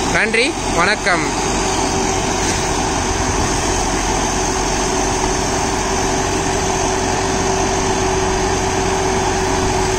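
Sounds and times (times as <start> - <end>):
tractor diesel engine under load: 0.0 - 9.9.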